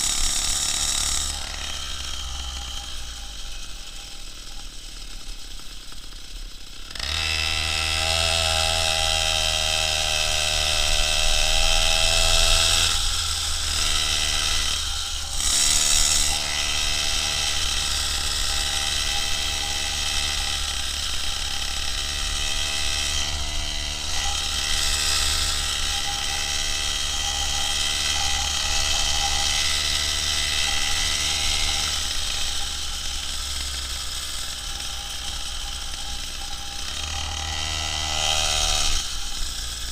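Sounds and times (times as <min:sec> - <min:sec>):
two-stroke moped engine revving: 0:00.0 - 0:39.9.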